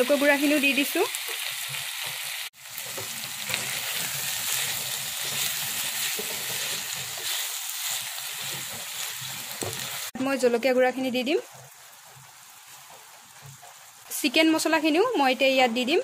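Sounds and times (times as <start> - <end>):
curry sizzling in a pan: 0.0 - 16.0
wooden spatula stirring: 0.2 - 15.4.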